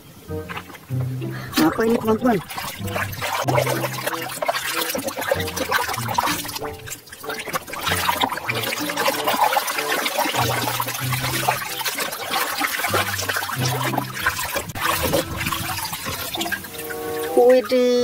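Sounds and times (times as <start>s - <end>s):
splashing in soapy water: 0.5s - 18.0s.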